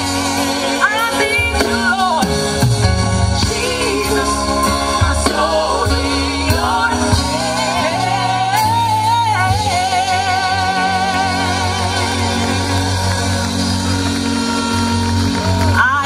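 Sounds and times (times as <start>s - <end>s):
band accompaniment: 0.0s - 16.0s
person singing gospel: 0.0s - 16.0s.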